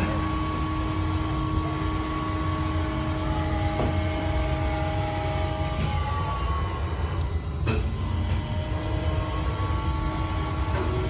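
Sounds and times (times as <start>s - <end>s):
machine hum: 0.0s - 11.0s
machine whining tones: 0.0s - 11.0s.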